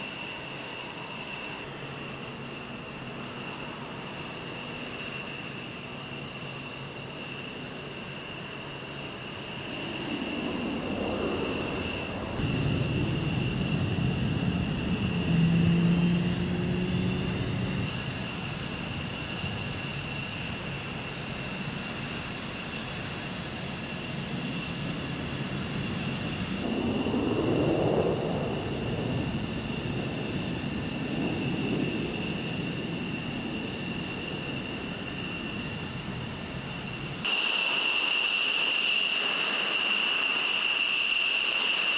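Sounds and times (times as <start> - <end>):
jet turbines whining: 0.0 - 41.9.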